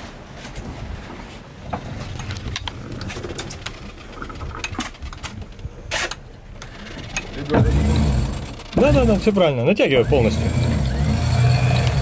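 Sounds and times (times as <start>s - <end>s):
clicks and knocks of boat gear: 0.0s - 9.8s
low rumble of boat and wind: 0.0s - 12.0s.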